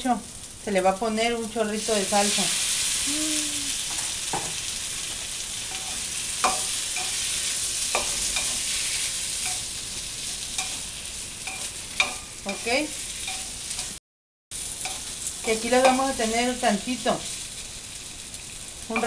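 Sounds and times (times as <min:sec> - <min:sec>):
potatoes sizzling in hot oil: 0:00.0 - 0:19.0.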